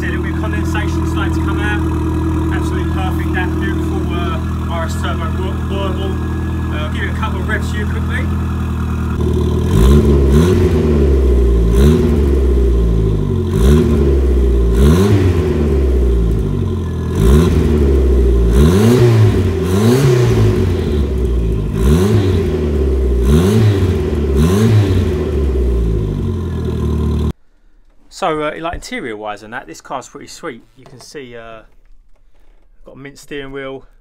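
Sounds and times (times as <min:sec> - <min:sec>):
car engine revving over idle: 0:00.0 - 0:27.4.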